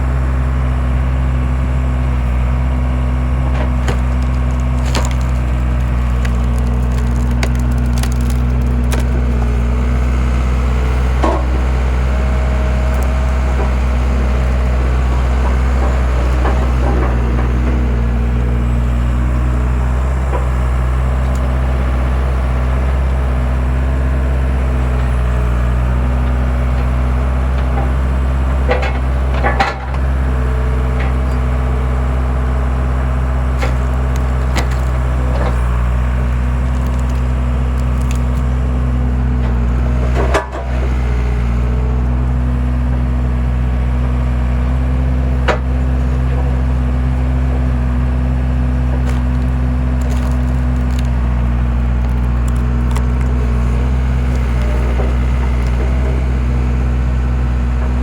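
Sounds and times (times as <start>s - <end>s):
skid steer engine running: 0.0s - 58.0s
wood cracking and splitting: 0.1s - 58.0s.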